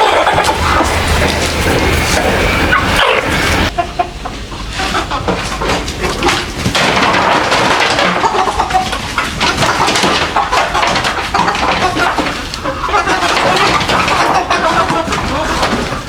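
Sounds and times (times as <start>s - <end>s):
chickens clucking and chirping: 0.0s - 16.0s.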